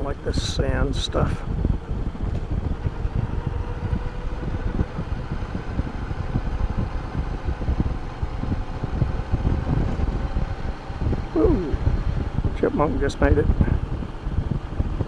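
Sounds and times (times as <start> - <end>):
motorcycle hum: 0.0 - 15.0
wind buffeting microphone: 0.0 - 15.0.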